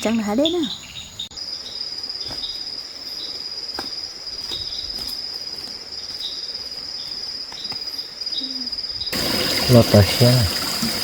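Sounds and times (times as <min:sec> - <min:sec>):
insect chirps: 0:00.0 - 0:11.0
insects trilling: 0:00.0 - 0:11.0.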